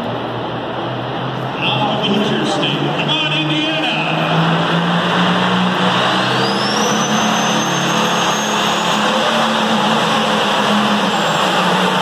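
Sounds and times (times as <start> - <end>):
high engine whine: 0.0 - 12.0
tractor engine running loudly: 0.0 - 12.0.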